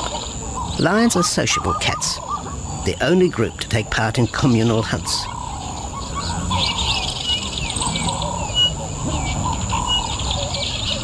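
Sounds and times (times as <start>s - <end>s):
birds chirping and trilling: 0.0s - 11.0s
high-pitched insect hum: 0.0s - 11.0s.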